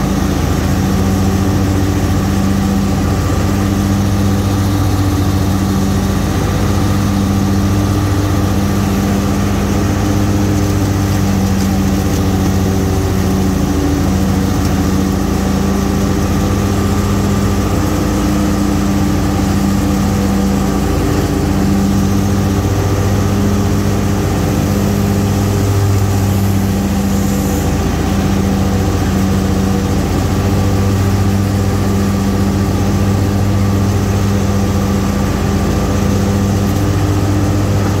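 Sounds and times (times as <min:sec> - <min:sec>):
small gas engine running: 0:00.0 - 0:38.0.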